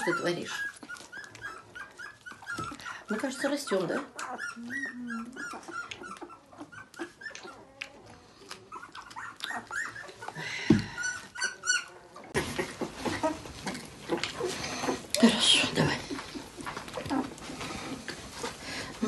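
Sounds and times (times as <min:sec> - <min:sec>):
puppy whimpering: 0:00.0 - 0:18.5.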